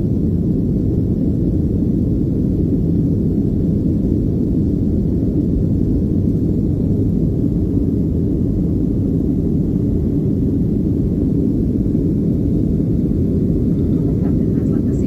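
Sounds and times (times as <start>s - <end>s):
jet airliner cabin rumble: 0.0s - 15.0s.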